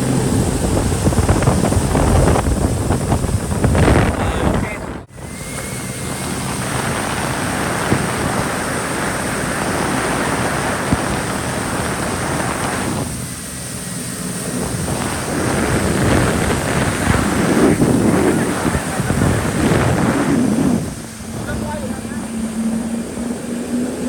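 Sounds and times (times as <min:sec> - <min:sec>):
water rushing past jet ski: 0:00.0 - 0:24.0
wind buffeting microphone: 0:00.0 - 0:24.0.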